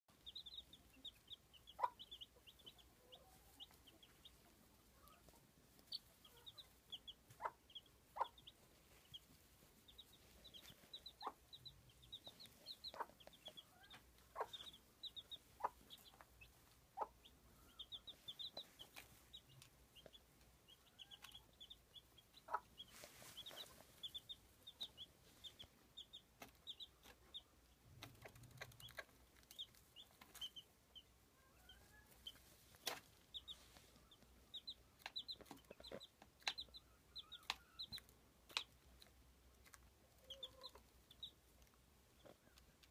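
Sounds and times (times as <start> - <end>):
chicks peeping: 0.1 - 42.9.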